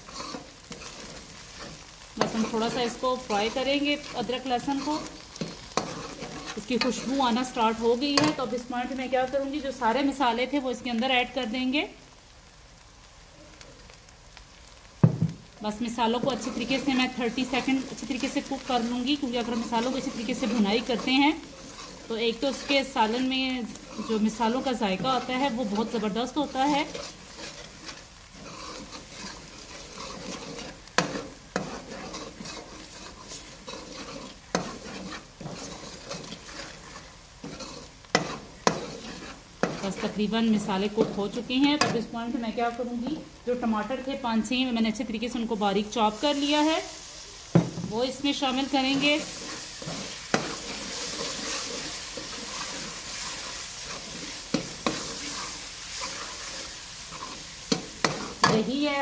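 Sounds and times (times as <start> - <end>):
metal spoon stirring and scraping: 0.0 - 9.0, 15.9 - 43.3, 47.9 - 59.0
spices sizzling in pan: 0.0 - 59.0.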